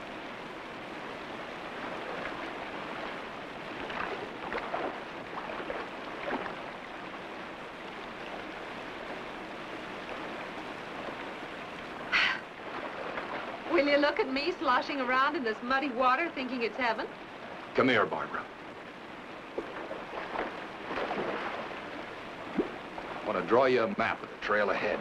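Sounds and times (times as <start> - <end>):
running water rushing: 0.0 - 25.0
wading splashes in shallow water: 1.4 - 17.8, 18.4 - 25.0.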